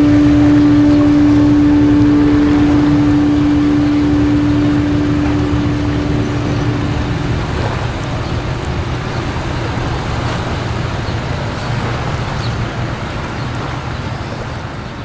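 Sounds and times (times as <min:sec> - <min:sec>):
steady low rumble: 0:00.0 - 0:14.7.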